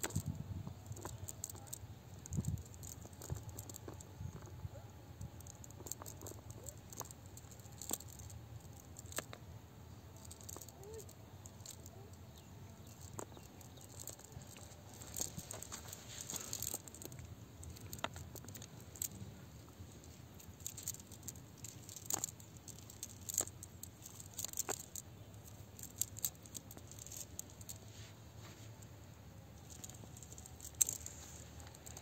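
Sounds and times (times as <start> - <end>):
cast net clicking and rustling: 0.0 - 9.4, 10.2 - 28.8, 29.6 - 32.0.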